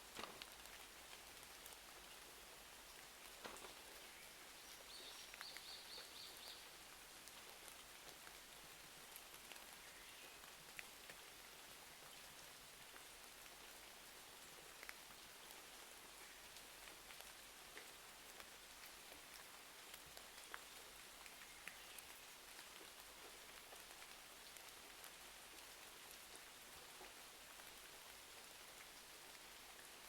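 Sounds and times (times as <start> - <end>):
faint rain: 0.0 - 30.0.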